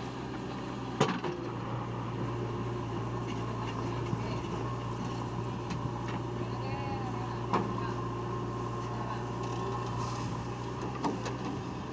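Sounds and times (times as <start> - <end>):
diesel engine humming: 0.0 - 11.9.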